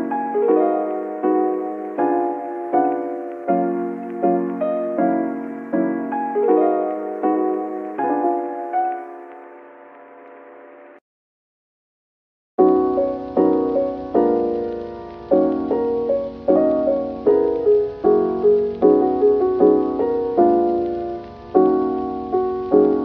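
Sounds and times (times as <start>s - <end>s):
gentle piano piece: 0.0s - 11.0s, 12.6s - 23.0s.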